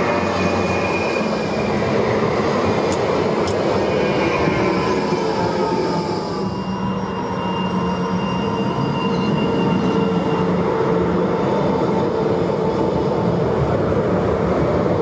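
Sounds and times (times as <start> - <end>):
tram wheels rolling on rails: 0.0 - 15.0
tram whine: 0.0 - 15.0.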